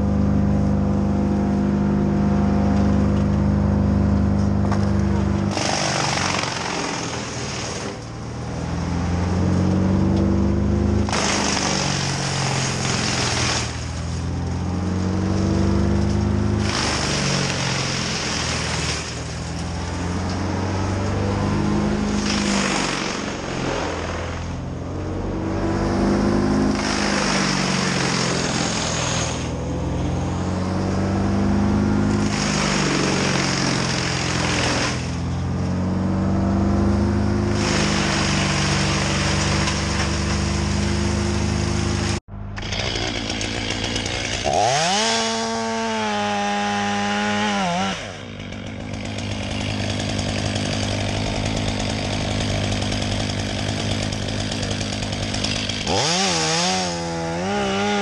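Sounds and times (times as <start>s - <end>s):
engine revving: 0.0s - 58.0s
chainsaw cutting: 4.6s - 58.0s.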